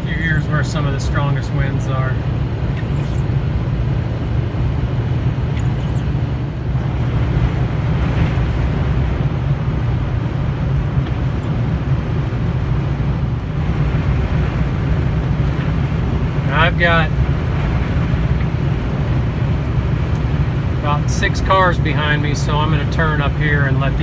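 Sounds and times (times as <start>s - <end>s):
engine and tyre drone: 0.0s - 24.0s
wind noise: 0.0s - 24.0s.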